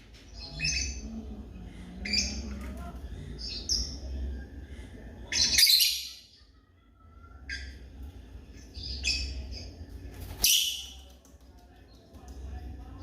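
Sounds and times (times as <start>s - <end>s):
lovebirds chirping: 0.1s - 13.0s.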